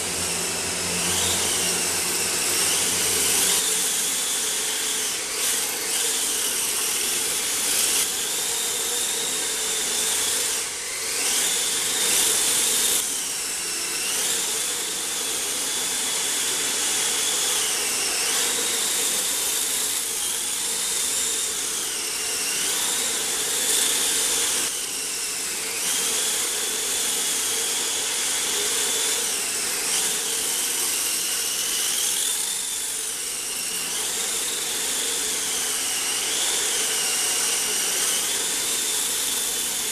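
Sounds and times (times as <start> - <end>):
toy car electric motor whining: 0.0 - 39.9.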